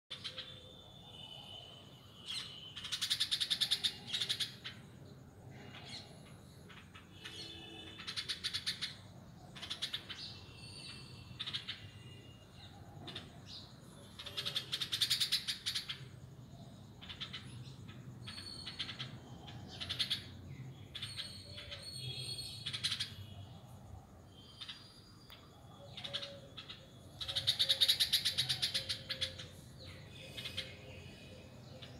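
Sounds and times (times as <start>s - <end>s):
songbirds twittering trills: 0.1s - 31.9s.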